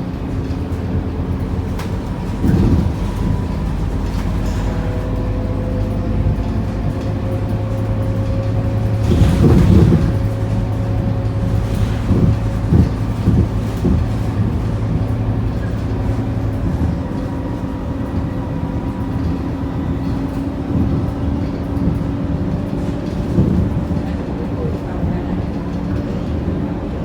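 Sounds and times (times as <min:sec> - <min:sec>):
bus diesel engine running: 0:00.0 - 0:27.0
knocks and rattles from bus body: 0:00.0 - 0:27.0
road noise: 0:00.0 - 0:27.0.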